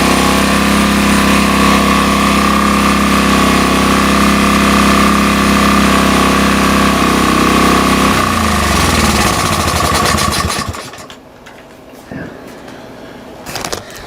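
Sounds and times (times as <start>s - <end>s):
generator engine running and shutting off: 0.0s - 11.8s.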